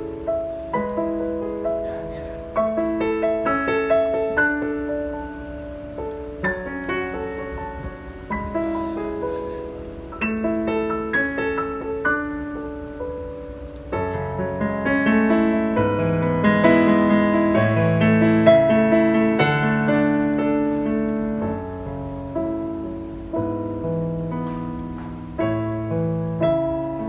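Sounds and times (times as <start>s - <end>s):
digital piano melody over chords: 0.0s - 27.0s.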